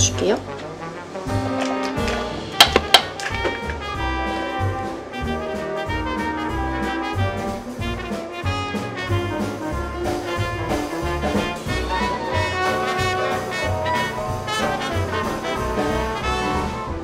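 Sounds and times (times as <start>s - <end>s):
upbeat jazzy brass music: 0.0s - 17.0s.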